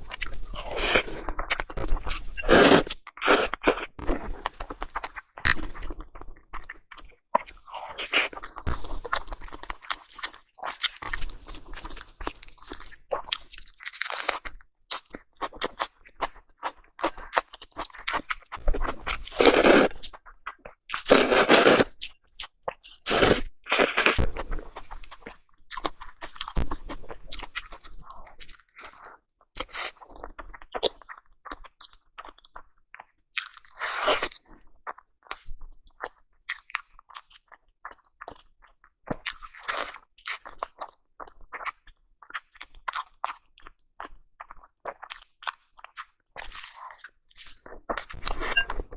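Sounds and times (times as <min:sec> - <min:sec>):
chewing sushi: 0:00.0 - 0:48.9.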